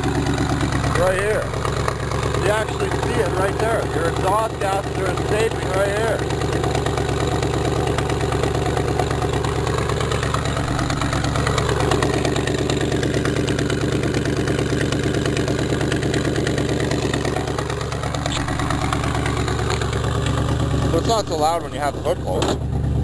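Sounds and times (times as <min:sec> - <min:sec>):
car engine idling: 0:00.0 - 0:23.0
exhaust leak ticking: 0:00.0 - 0:23.0.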